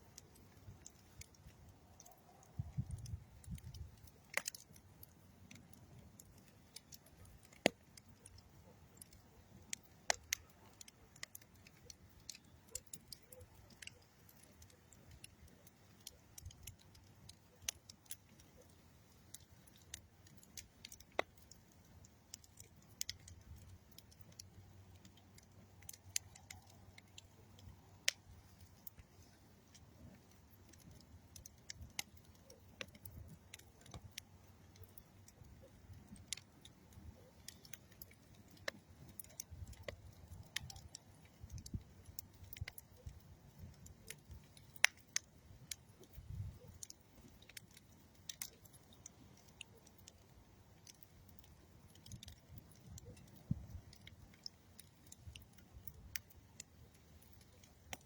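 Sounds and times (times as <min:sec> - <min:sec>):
campfire crackling and popping: 0:00.0 - 0:58.0
low rumble of flame: 0:00.0 - 0:58.0.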